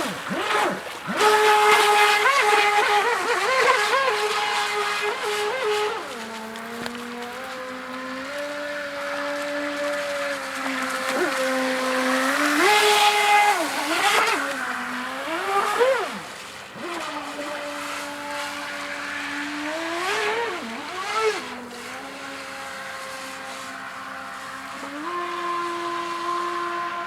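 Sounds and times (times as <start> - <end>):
model boat motor whining: 0.0 - 27.0.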